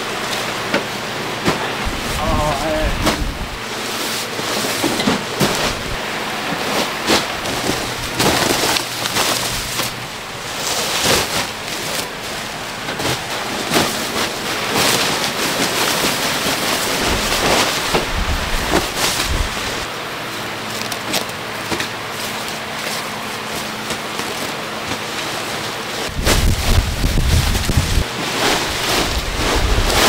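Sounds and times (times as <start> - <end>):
sacks rustling and scraping: 1.3 - 30.0
sacks thudding: 1.4 - 19.9, 21.0 - 30.0.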